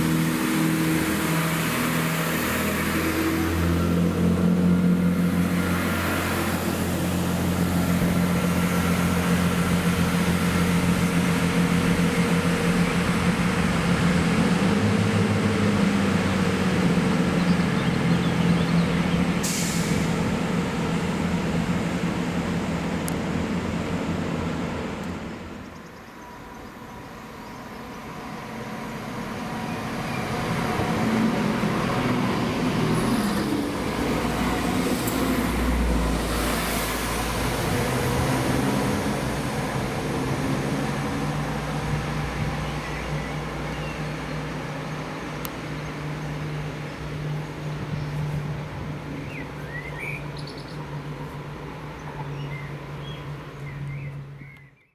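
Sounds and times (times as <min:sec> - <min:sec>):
train running in: 0:00.0 - 0:54.4
diesel train engines humming: 0:00.0 - 0:54.8.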